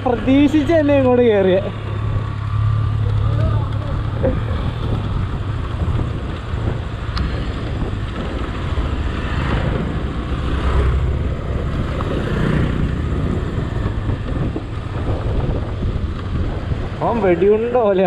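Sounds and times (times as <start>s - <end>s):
vehicle engine and road noise: 0.0s - 18.0s
wind buffeting microphone: 0.0s - 18.0s.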